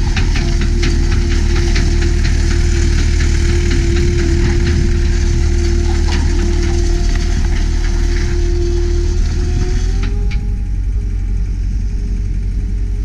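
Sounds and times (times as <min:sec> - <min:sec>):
diesel engine running: 0:00.0 - 0:13.0
steady whine: 0:00.0 - 0:13.0.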